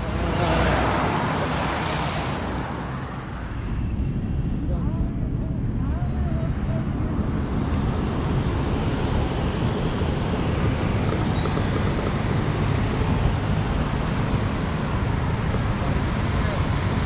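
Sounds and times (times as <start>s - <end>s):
road traffic noise: 0.0s - 17.0s
wind rumbling on microphone: 0.0s - 17.0s.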